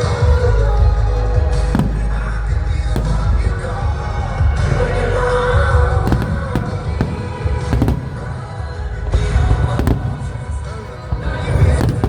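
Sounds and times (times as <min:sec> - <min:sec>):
fireworks bursting: 0:00.0 - 0:12.0
low rumble: 0:00.0 - 0:12.0
music playing: 0:00.0 - 0:12.0.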